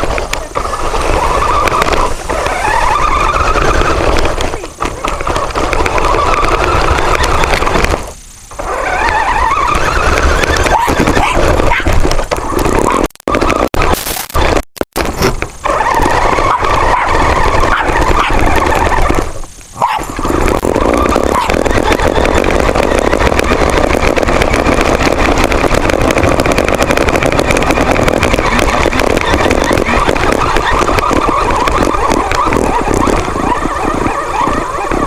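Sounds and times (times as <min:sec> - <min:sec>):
farting noise from tires: 0:00.0 - 0:35.0
toy car motor and tires: 0:00.0 - 0:35.0.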